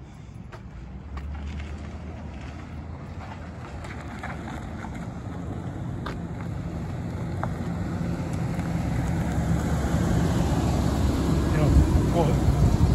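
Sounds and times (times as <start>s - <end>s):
pickup truck engine approaching: 0.0s - 12.9s.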